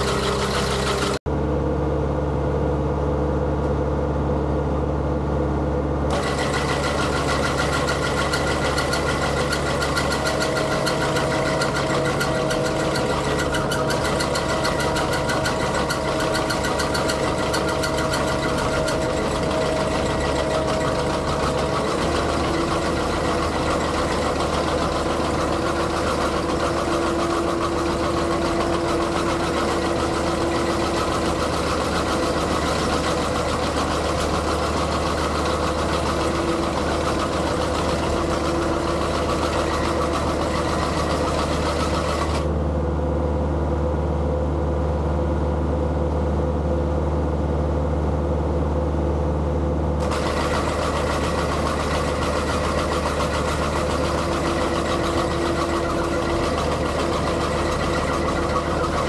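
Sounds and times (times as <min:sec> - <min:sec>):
hydraulic mower whine: 0:00.0 - 0:43.0, 0:49.9 - 0:59.0
skid steer engine running: 0:00.0 - 0:59.0.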